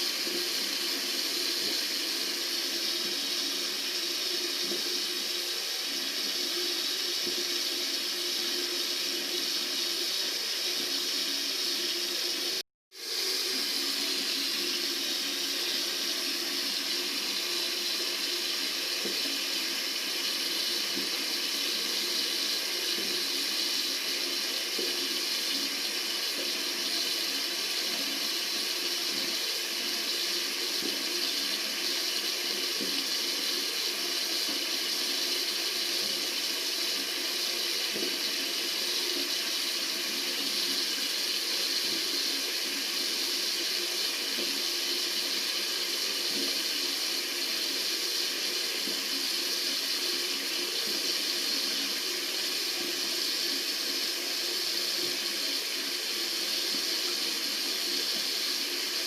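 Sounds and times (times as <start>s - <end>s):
tap water running: 0.0s - 59.0s.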